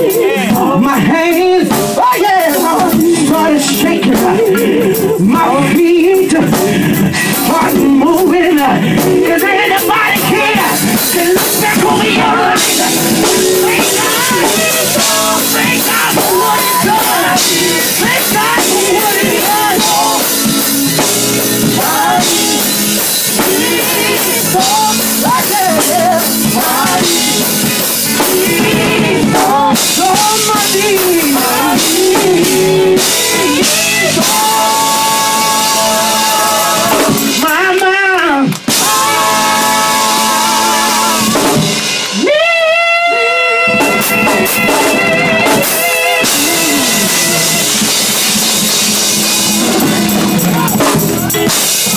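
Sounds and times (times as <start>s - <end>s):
drum kit and band: 0.0s - 51.9s
male vocal group singing gospel: 0.0s - 51.9s.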